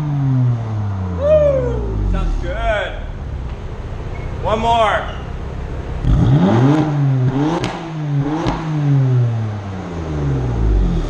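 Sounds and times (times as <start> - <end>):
car engine idling and revving: 0.0 - 11.0
exhaust crack: 0.0 - 11.0.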